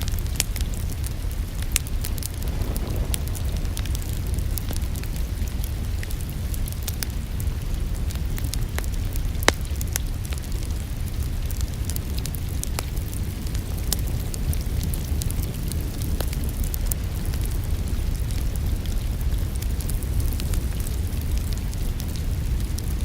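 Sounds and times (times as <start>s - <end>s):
steady rain falling: 0.0s - 23.0s
wood fire crackling: 0.0s - 23.0s.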